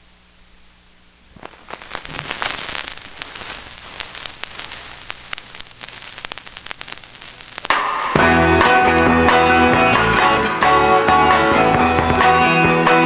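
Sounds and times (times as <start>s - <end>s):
vinyl crackle and pops: 0.0s - 13.0s
vinyl record surface hiss: 0.0s - 13.0s.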